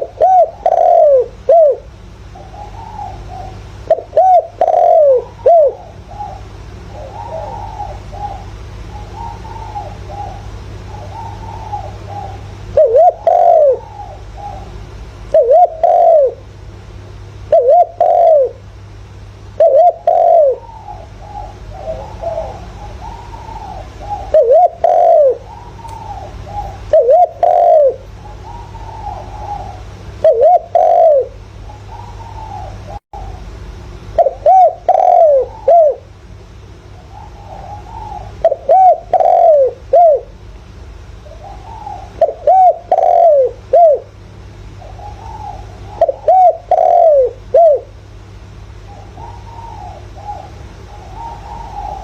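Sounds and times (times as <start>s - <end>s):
dove cooing: 0.0s - 16.6s, 17.3s - 40.5s, 41.1s - 52.0s
steady low hum: 0.0s - 52.0s.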